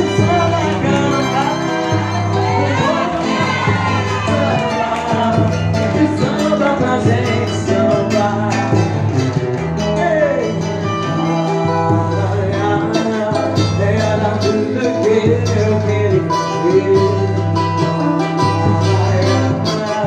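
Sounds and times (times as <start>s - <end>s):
person singing: 0.0s - 20.0s
plucked strings: 0.0s - 20.0s
steady bass line: 0.0s - 20.0s.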